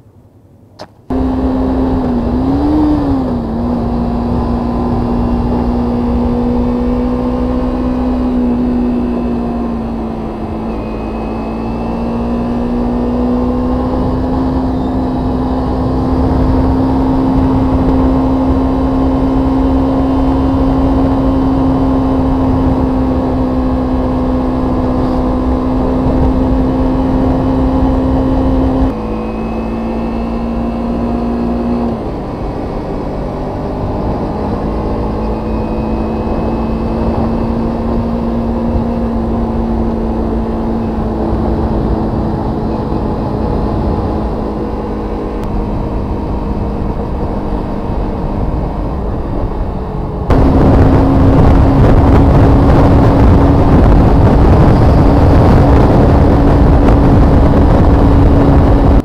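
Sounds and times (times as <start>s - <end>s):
motorcycle engine cruising: 0.8s - 59.0s.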